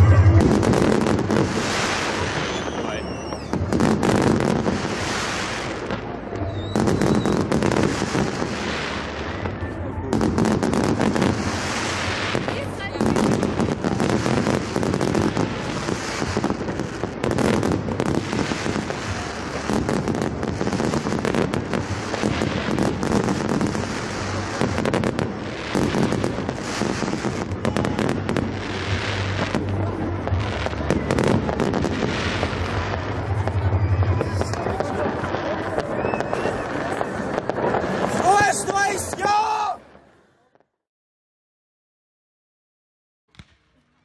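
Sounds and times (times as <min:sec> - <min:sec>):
fireworks bursting and crackling: 0:00.0 - 0:40.8, 0:43.3 - 0:44.0.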